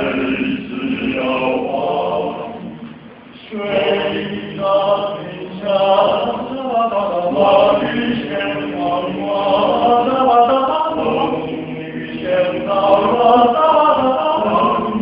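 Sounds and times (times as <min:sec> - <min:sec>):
men singing a cappella harmony: 0:00.0 - 0:02.8, 0:03.4 - 0:15.0.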